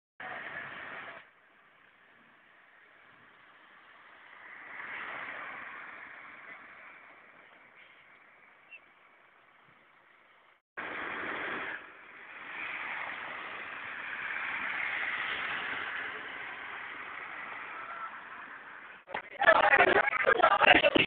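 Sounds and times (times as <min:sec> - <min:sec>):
roadside traffic hiss: 0:00.2 - 0:19.3.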